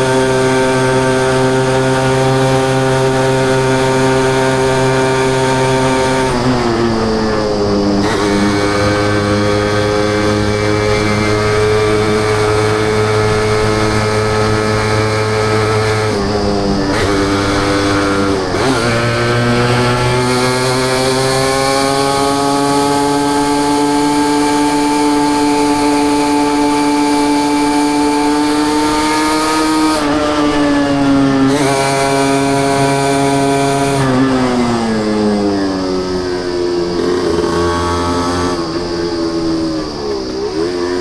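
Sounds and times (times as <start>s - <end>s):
two-stroke motorcycle engine: 0.0s - 41.0s.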